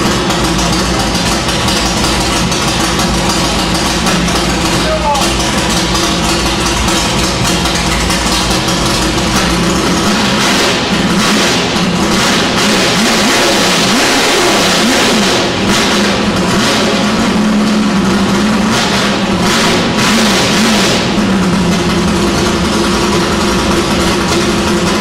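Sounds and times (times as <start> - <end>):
engine revving with throttle blips: 0.0 - 25.0.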